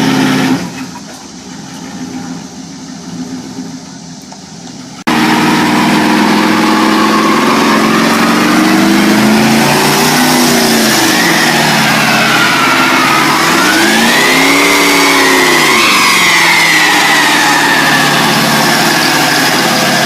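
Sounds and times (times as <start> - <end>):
spinning tyres hissing: 0.0 - 20.0
truck engine at high revs: 0.0 - 20.0.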